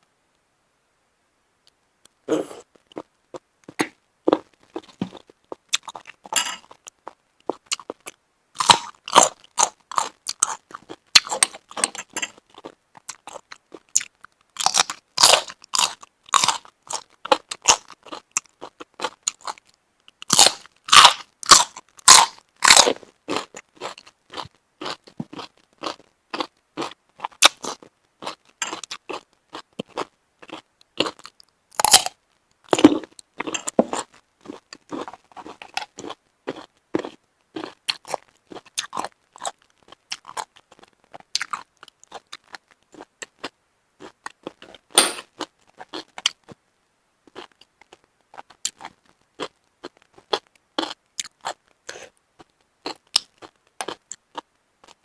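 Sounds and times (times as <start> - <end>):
chewing shellfish crunching: 2.3 - 46.6, 47.3 - 55.0.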